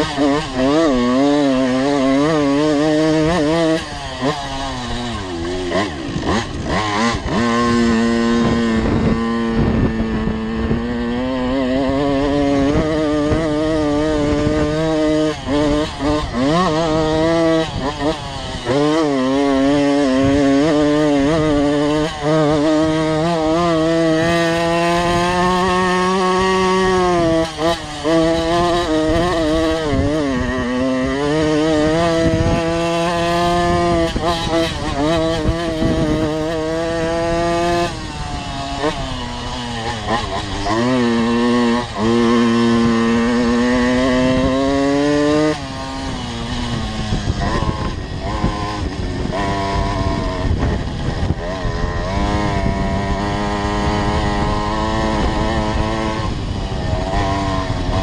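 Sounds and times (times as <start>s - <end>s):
two-stroke motorbike engine revving: 0.0s - 58.0s.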